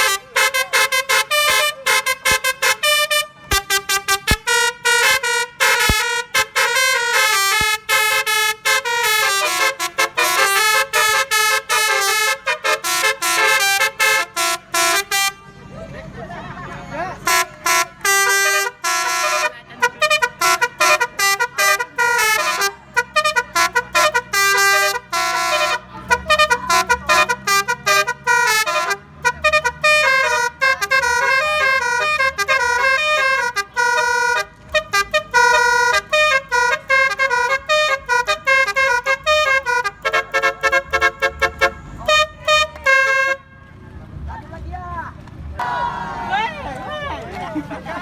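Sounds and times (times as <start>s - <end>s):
musical air horn tooting a tune: 0.0s - 15.8s, 17.2s - 43.8s.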